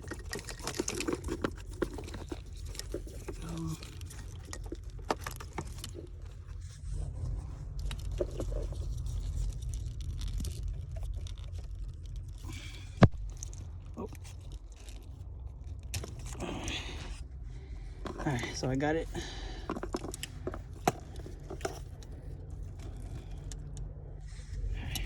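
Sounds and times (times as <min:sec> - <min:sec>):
low steady rumble: 0:00.0 - 0:25.0
plastic connectors scraping and crinkling: 0:00.0 - 0:25.0.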